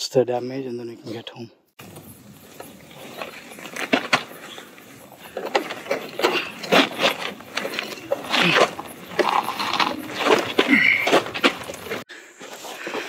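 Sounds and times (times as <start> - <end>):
motorcycle parts scraping on gravel: 1.8 - 13.0
boots scuffing: 2.5 - 13.0.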